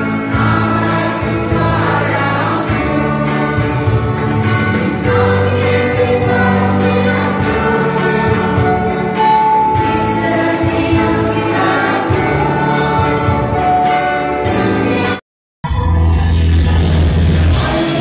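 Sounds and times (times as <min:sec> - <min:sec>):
choir singing: 0:00.0 - 0:13.6, 0:14.4 - 0:15.2, 0:17.4 - 0:18.0.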